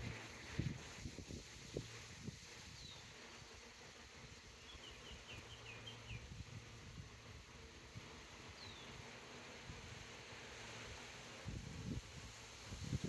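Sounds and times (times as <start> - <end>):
low hum of bee swarm: 0.0 - 13.0.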